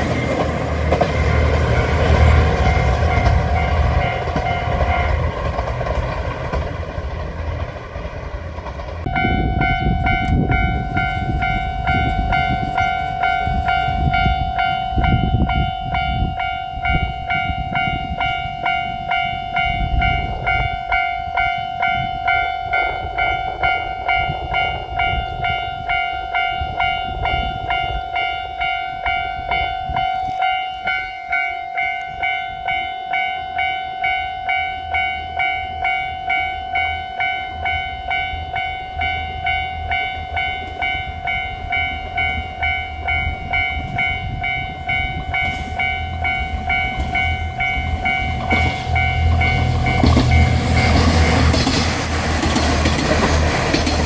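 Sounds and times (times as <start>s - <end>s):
level crossing warning bell: 0.0s - 6.1s, 9.0s - 54.0s
diesel train droning: 0.0s - 54.0s.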